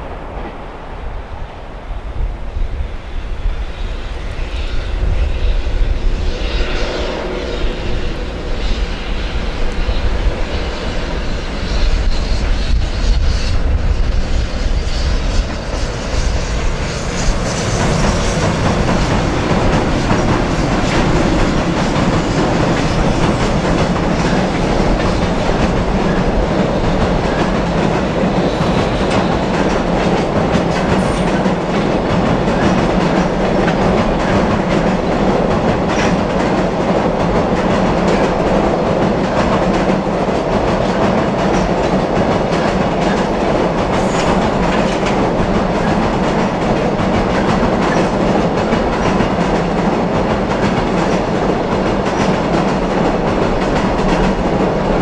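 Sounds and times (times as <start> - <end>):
train rumbling over steel bridge: 0.0 - 55.0
freight train wheels clattering: 4.2 - 55.0.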